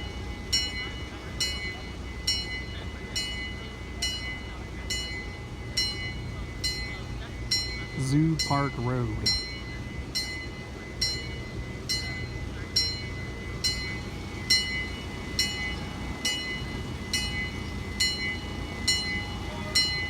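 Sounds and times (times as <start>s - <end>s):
bell ringing: 0.0s - 20.0s
train low rumble: 0.0s - 20.0s.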